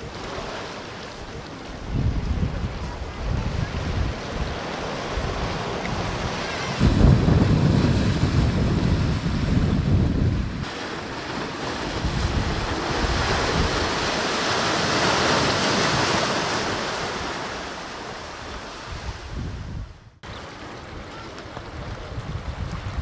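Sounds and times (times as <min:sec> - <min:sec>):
surf breaking on rocky shore: 0:00.0 - 0:19.7
wind buffeting microphone: 0:01.2 - 0:17.5, 0:18.4 - 0:23.0.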